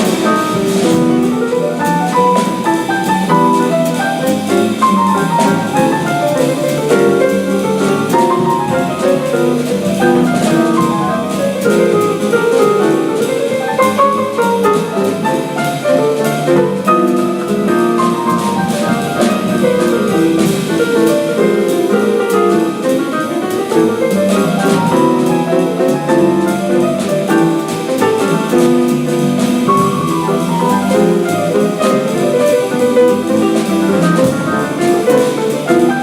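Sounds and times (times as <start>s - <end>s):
drum kit with cymbals: 0.0s - 36.0s
jazz piano: 0.0s - 36.0s.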